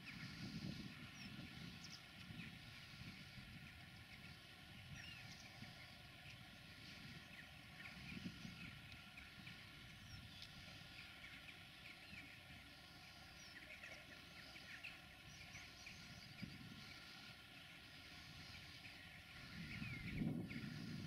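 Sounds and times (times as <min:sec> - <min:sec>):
low steady rumble: 0:00.0 - 0:21.0
small birds chirping: 0:00.0 - 0:21.0.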